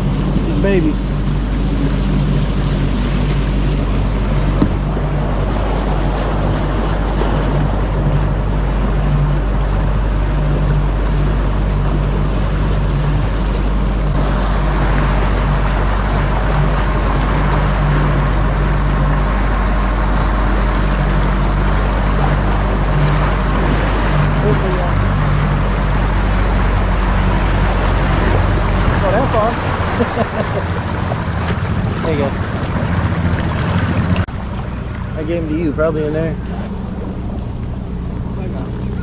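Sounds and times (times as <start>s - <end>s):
outboard motor running: 0.0s - 39.0s
wind and water rush: 0.0s - 39.0s.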